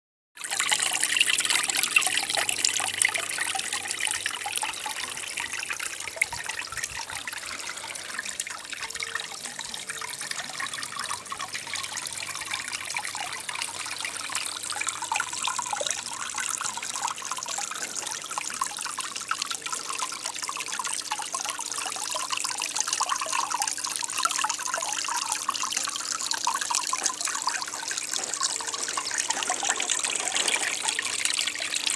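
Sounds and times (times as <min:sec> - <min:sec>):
water trickling down fountain: 0:00.4 - 0:31.9.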